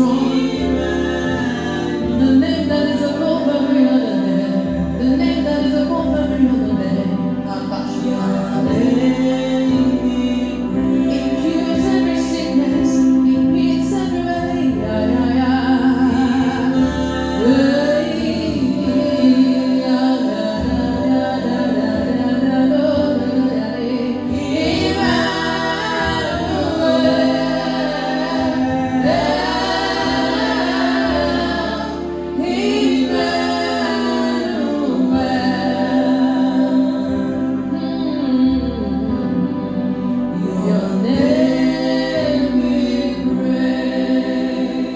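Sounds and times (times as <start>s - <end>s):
gospel singing in harmony: 0.0s - 44.9s
keyboard sustained chords: 0.0s - 44.9s.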